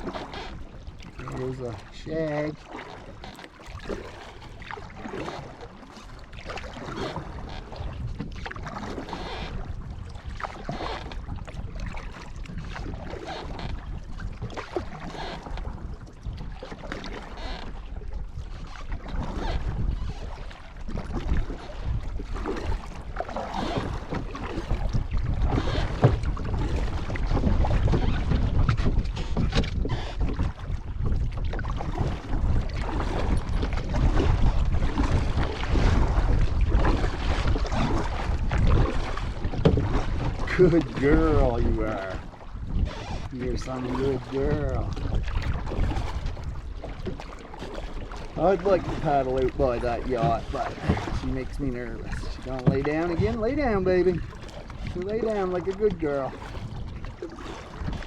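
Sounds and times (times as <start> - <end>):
kayak paddle splashing in water: 0.0 - 58.0
wind buffeting microphone: 6.6 - 58.0.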